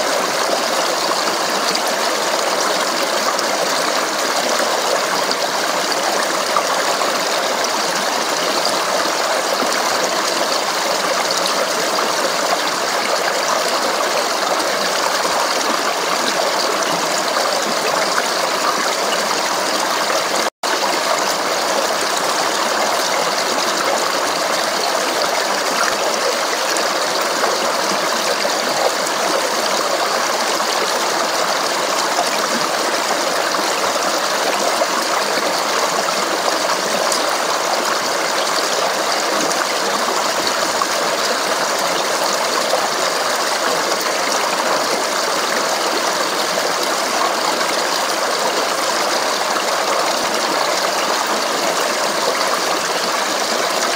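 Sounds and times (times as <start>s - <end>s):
stream babbling and splashing: 0.0s - 53.9s.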